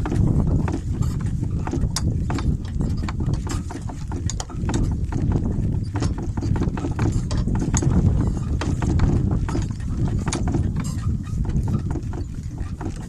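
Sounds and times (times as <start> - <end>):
cart clicks and clatter: 0.0 - 13.0
hooves clip-clopping: 0.0 - 13.0
wind buffeting microphone: 0.0 - 13.0.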